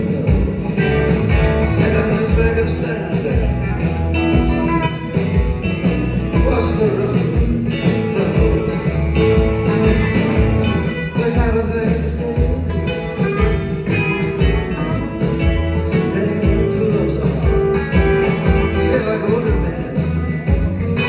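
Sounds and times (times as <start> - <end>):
live blues-rock band playing: 0.0 - 21.0.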